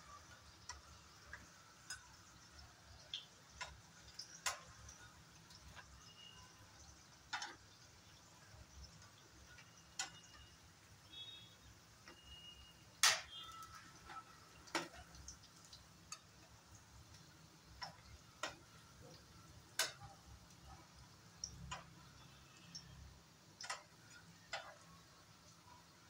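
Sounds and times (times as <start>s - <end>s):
metal spatula tapping frying pan: 0.1s - 10.9s, 12.0s - 22.8s, 23.6s - 25.6s.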